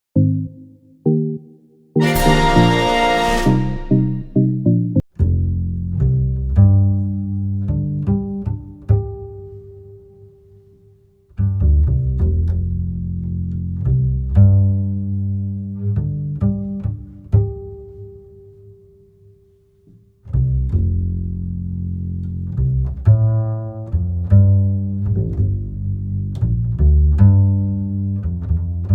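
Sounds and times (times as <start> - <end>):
plucked low string music: 2.0 - 10.0, 11.4 - 18.4, 20.3 - 28.9.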